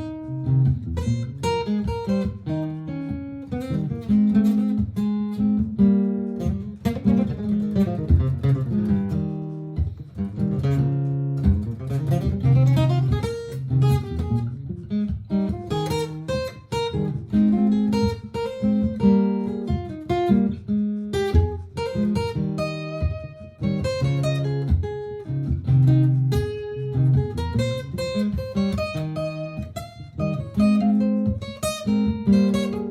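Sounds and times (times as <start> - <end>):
strummed guitar loop: 0.0 - 32.9.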